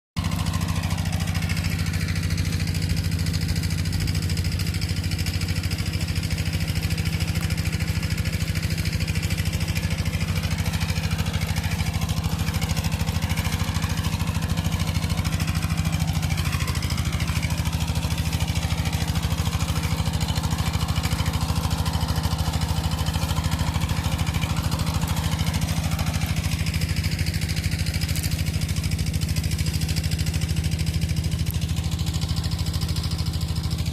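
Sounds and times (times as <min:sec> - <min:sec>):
engine running steadily: 0:00.2 - 0:33.9.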